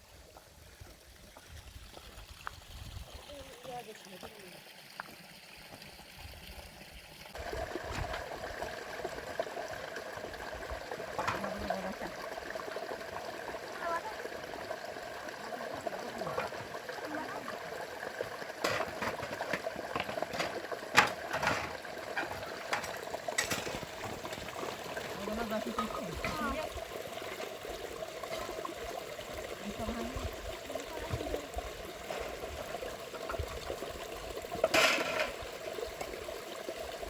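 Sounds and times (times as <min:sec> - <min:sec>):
rainwater trickling and splashing: 0:00.0 - 0:37.0.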